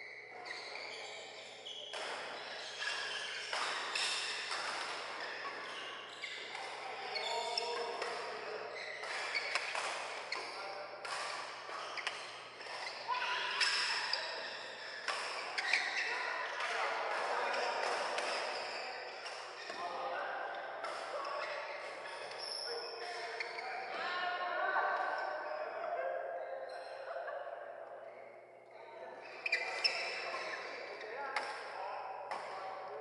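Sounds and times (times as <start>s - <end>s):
voices: 0.0s - 33.0s.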